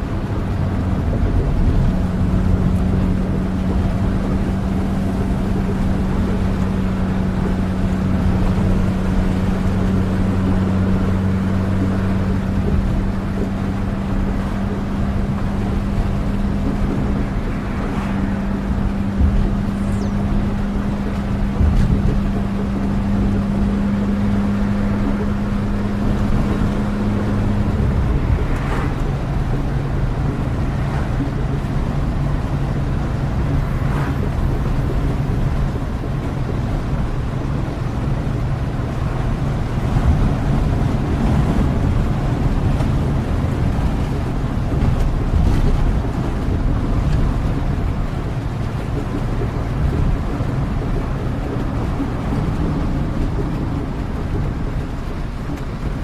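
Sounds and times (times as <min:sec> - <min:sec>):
engine hum: 0:00.0 - 0:56.0
rain: 0:00.0 - 0:56.0
vehicle rumble: 0:00.0 - 0:56.0.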